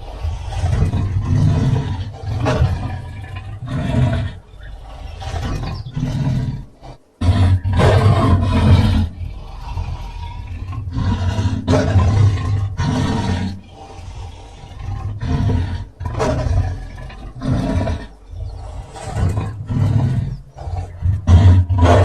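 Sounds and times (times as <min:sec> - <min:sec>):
big cat roaring and growling: 0:00.0 - 0:22.0.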